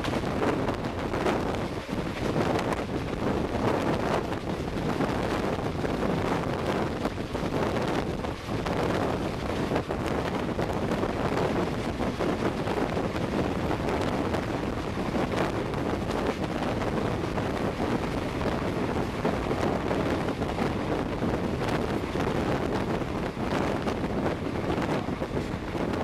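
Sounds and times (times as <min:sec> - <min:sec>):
train wheels clattering on rails: 0:00.0 - 0:26.0
wind buffeting microphone: 0:00.0 - 0:26.0.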